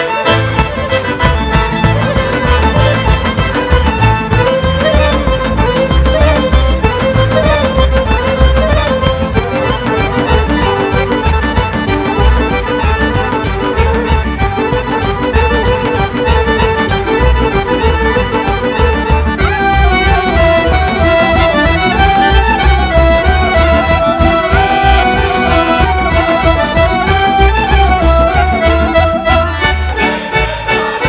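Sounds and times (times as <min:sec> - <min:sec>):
accordion melody: 0:00.0 - 0:31.0
folk dance music: 0:00.0 - 0:31.0.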